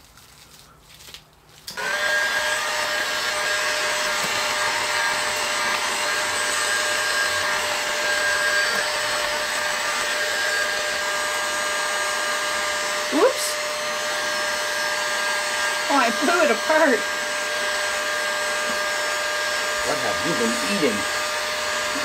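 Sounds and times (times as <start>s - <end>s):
heat gun fan rushing: 1.7s - 22.0s.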